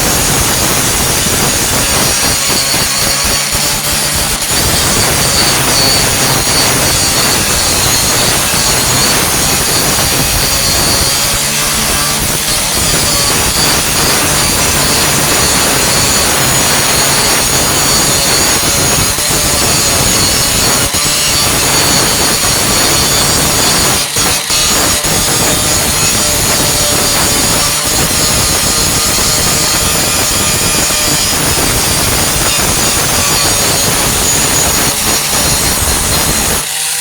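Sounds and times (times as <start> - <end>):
angle grinder grinding metal: 0.0 - 37.0.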